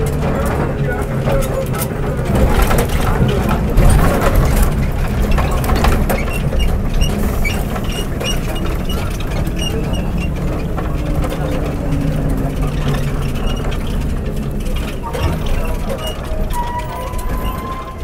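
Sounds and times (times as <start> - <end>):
bus body rattling and clicking: 0.0 - 18.0
bus diesel engine running: 0.0 - 18.0.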